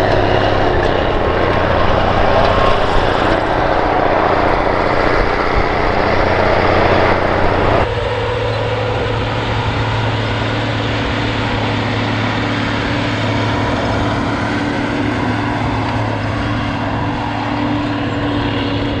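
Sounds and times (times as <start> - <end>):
drone propeller whine: 0.0 - 19.0
tractor diesel engine under load: 0.0 - 19.0.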